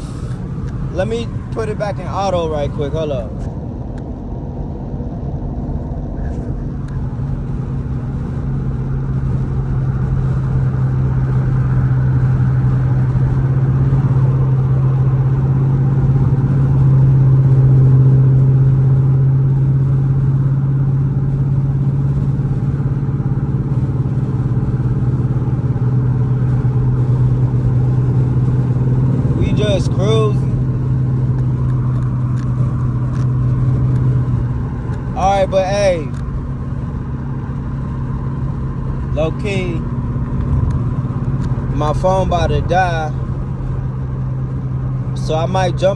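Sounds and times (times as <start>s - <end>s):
low car exhaust drone: 0.0s - 45.9s.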